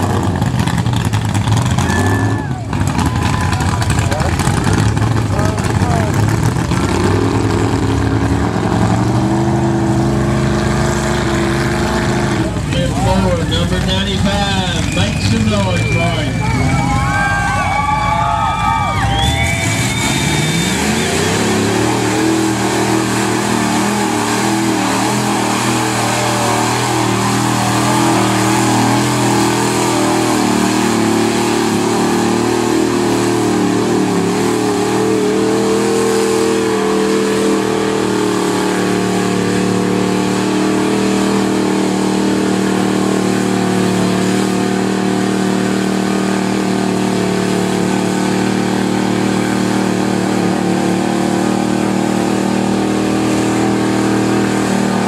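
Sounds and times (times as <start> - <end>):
pickup truck engine revving: 0.0 - 55.0.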